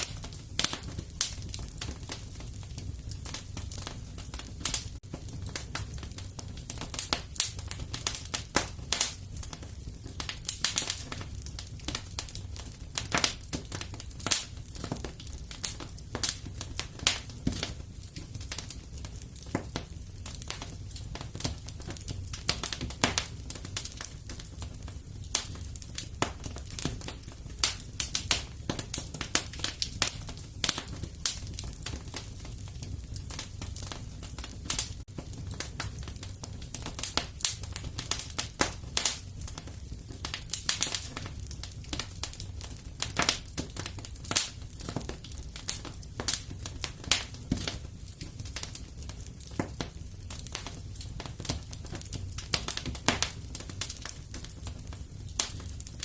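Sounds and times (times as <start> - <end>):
low rumble of burning logs: 0.0 - 56.0
wood fire crackling: 0.0 - 56.0.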